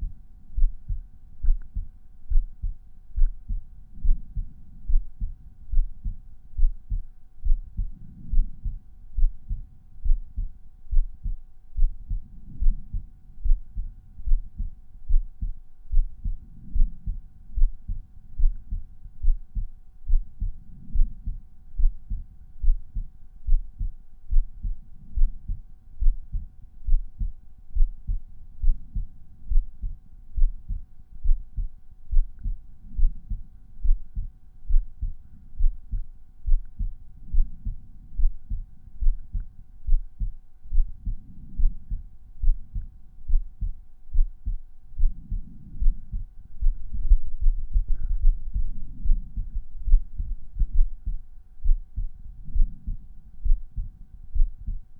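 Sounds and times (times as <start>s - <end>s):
faint steady hum: 0.0s - 54.9s
heartbeat thumps: 0.0s - 54.9s.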